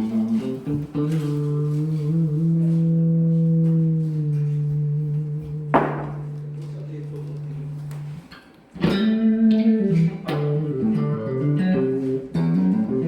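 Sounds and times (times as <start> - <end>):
electric guitar through amplifier: 0.0 - 13.0.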